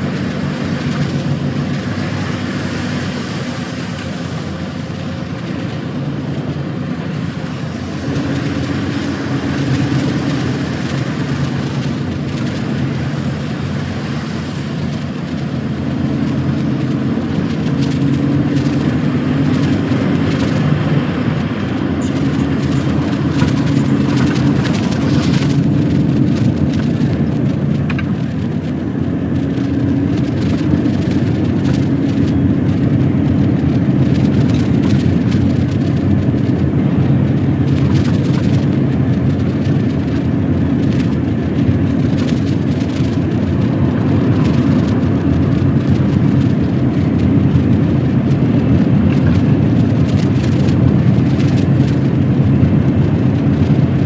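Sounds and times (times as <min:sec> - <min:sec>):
diesel lorry engine droning: 0:00.0 - 0:54.0
road noise: 0:00.0 - 0:54.0.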